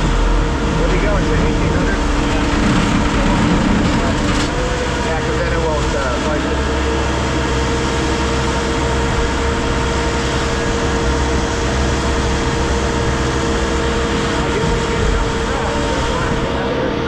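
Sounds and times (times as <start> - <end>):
heavy diesel machinery droning: 0.0 - 17.0
steady whine: 0.0 - 17.0.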